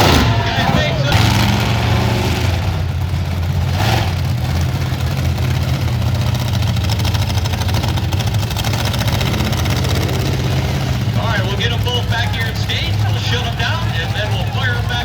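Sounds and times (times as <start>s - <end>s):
monster truck engines running: 0.0s - 15.0s.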